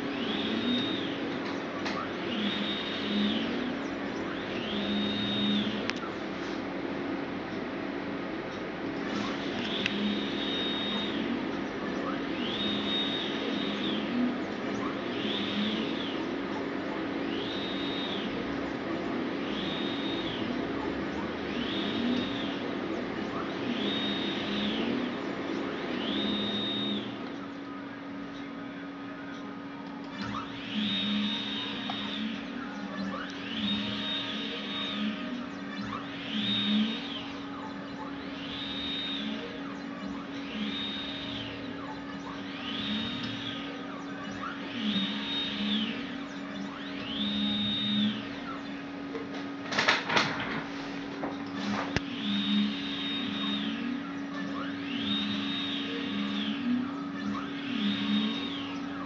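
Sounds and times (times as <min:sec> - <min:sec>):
steady hum: 0:00.0 - 0:59.0
stepper motors whining: 0:00.0 - 0:59.0.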